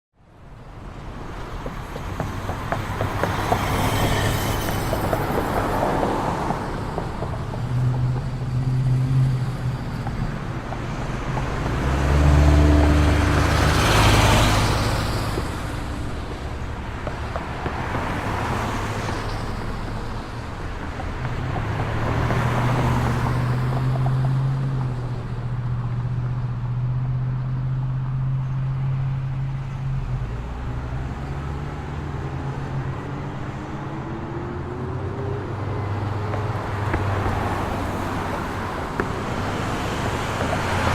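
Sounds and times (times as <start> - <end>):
cars passing: 0.3 - 40.9.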